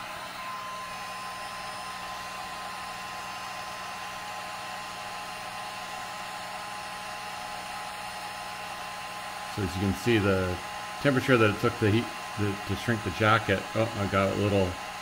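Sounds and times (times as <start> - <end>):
heat gun fan blowing: 0.0 - 15.0.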